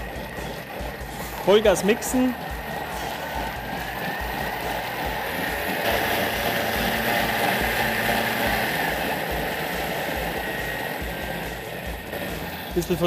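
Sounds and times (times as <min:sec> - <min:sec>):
blender motor whirring: 0:00.0 - 0:13.0.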